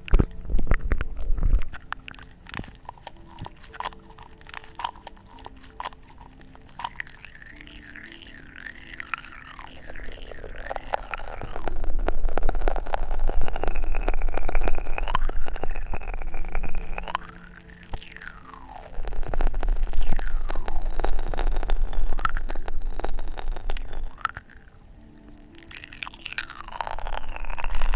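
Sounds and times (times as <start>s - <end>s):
popping candy crackling in mouth: 0.0s - 27.9s.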